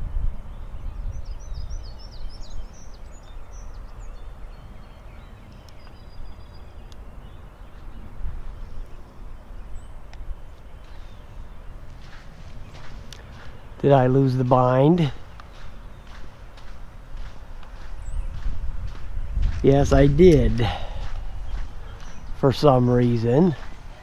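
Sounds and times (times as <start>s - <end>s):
bird chirping: 0.0s - 24.0s
wind buffeting microphone: 0.0s - 24.0s.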